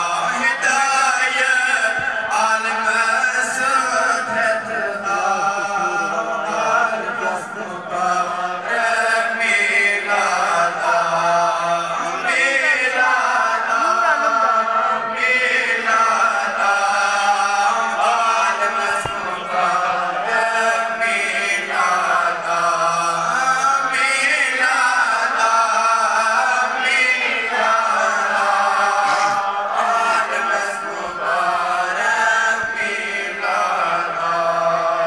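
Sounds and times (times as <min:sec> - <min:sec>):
men chanting devotional hymn: 0:00.0 - 0:35.0.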